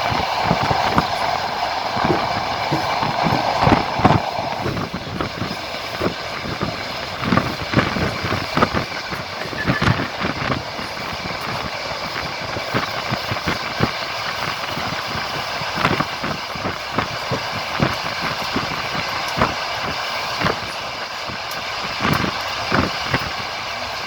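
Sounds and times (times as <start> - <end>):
train carriage rumbling: 0.0 - 24.0
train wheels clattering over rail joints: 0.0 - 24.0.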